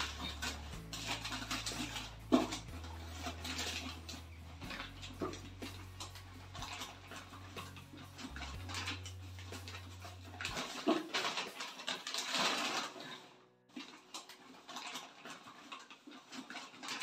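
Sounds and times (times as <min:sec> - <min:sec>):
pack rustling: 0:00.0 - 0:17.0.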